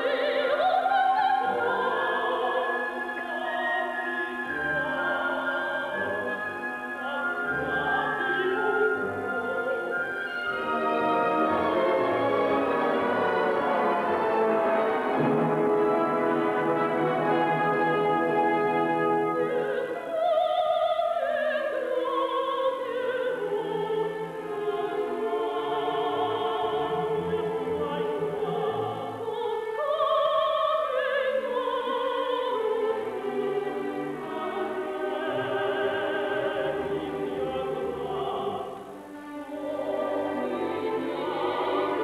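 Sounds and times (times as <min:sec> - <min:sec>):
woman singing opera: 0:00.0 - 0:15.0, 0:15.6 - 0:42.0
orchestra: 0:00.0 - 0:42.0.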